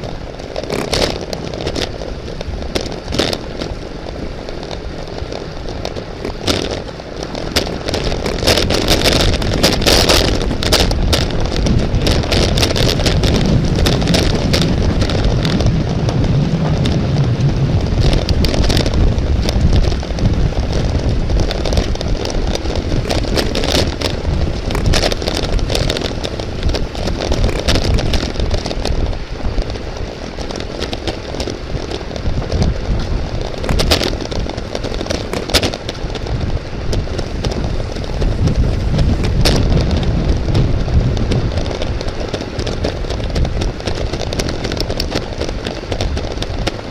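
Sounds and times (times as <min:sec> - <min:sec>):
road rumble: 0:00.0 - 0:46.9
sharp clicks and rattles: 0:00.0 - 0:46.9
wind on microphone: 0:00.0 - 0:46.9.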